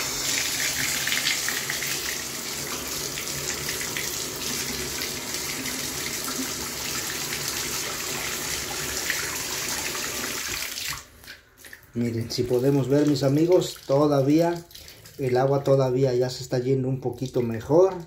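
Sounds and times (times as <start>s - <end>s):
water pouring into bathtub: 0.0s - 15.8s, 17.0s - 18.0s.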